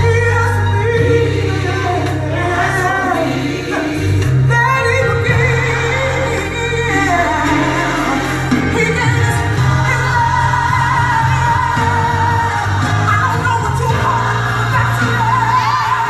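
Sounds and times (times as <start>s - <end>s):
steady bass accompaniment: 0.0s - 16.0s.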